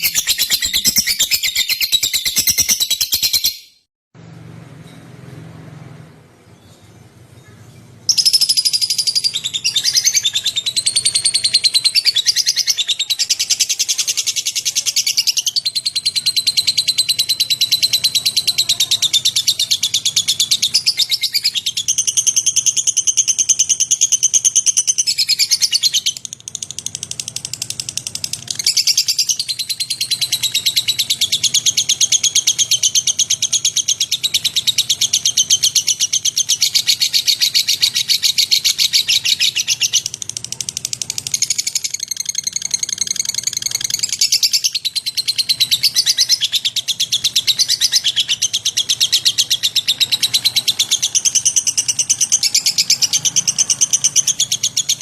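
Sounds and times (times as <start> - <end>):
lovebird chattering trill: 0.0 - 3.9, 8.1 - 55.0.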